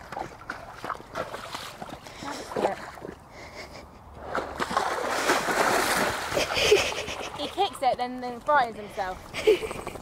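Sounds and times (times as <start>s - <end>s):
hooves splashing in water: 0.0s - 3.3s, 4.2s - 10.0s.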